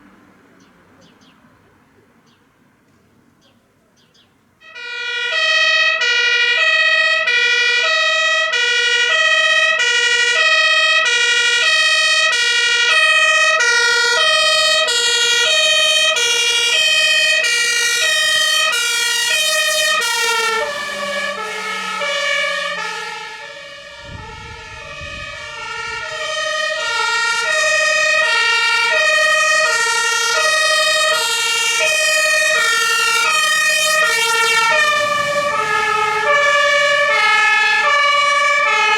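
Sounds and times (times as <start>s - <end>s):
two-tone fire engine siren: 4.6s - 38.9s.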